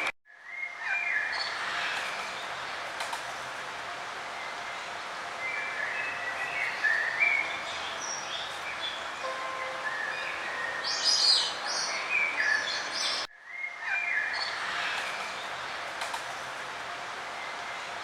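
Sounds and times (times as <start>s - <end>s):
songbirds chirping and trilling: 0.4s - 18.0s
steady background hiss: 0.4s - 18.0s.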